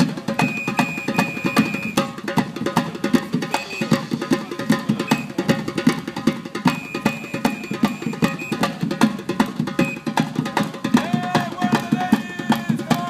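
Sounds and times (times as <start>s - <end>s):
fast drumming: 0.0s - 13.0s.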